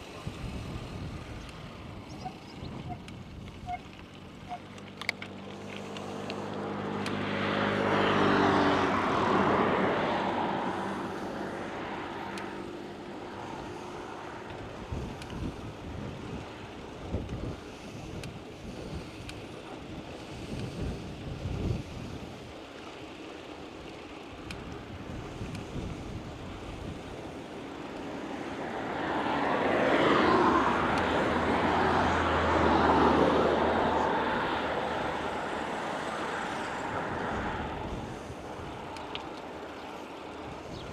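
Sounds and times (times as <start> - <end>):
wind gusts rumbling on microphone: 0.0 - 4.8, 5.9 - 40.9
motor vehicle passing: 0.0 - 40.9.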